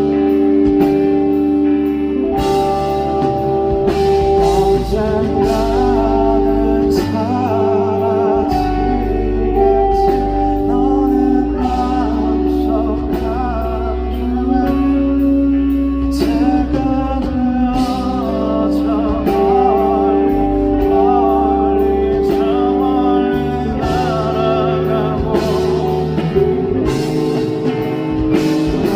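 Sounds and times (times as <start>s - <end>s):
live band playing slow song: 0.0s - 28.9s
person singing: 0.0s - 28.9s.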